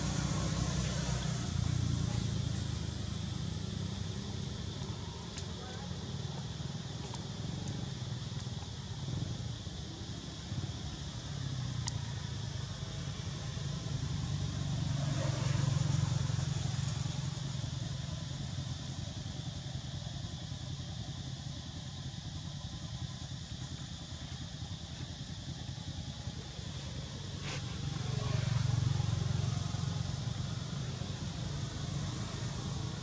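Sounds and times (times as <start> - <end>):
distant traffic rumble: 0.0 - 33.0.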